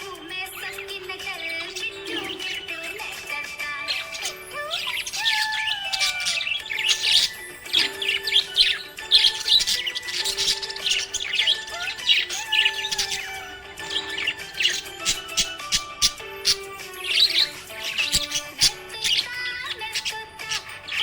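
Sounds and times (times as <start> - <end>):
background music: 0.0 - 21.0
budgerigars chirping: 0.0 - 21.0.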